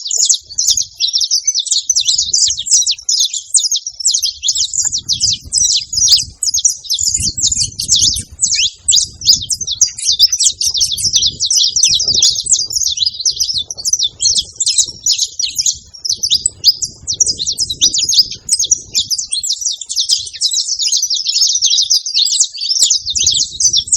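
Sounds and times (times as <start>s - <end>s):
finches chirping and singing: 0.0s - 23.9s.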